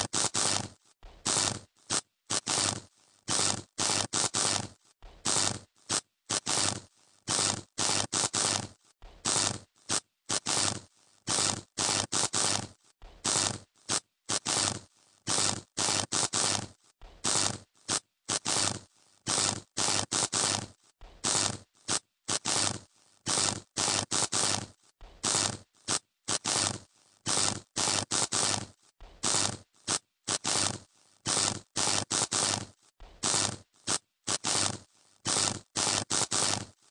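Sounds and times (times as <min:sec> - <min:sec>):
electrical arcing and buzzing: 0:00.0 - 0:01.6, 0:02.3 - 0:08.7, 0:09.3 - 0:36.7.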